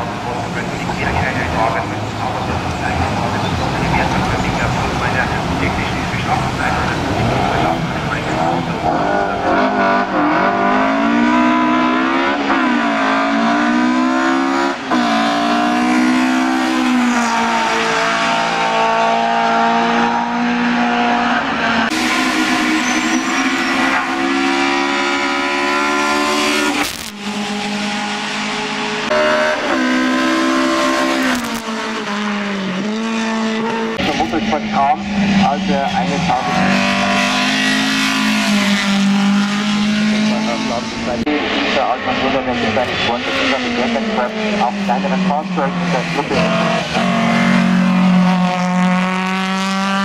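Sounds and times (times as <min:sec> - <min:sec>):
racing car engine revving: 0:00.0 - 0:50.0.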